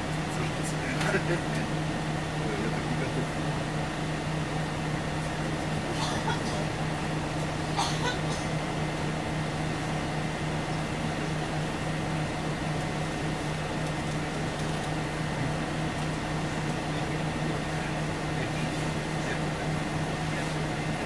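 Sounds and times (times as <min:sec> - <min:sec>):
bus engine hum: 0:00.0 - 0:21.0.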